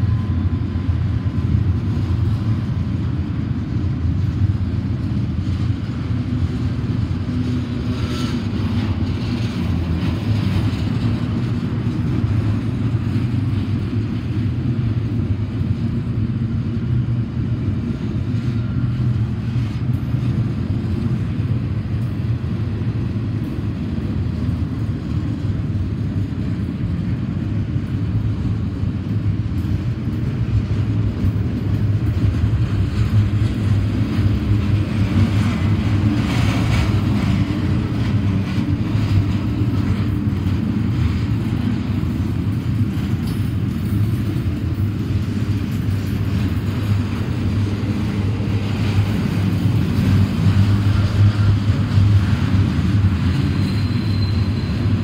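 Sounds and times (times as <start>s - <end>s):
steel wheels rolling on rails: 0.0s - 55.0s.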